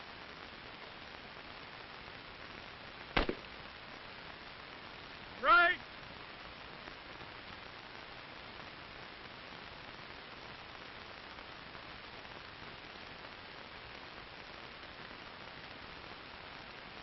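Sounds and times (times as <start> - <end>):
film soundtrack hiss and static: 0.0 - 17.0.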